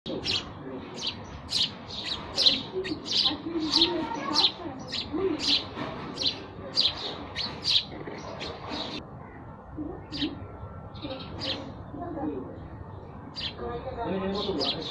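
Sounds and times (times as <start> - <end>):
sparrows chirping: 0.1 - 14.9.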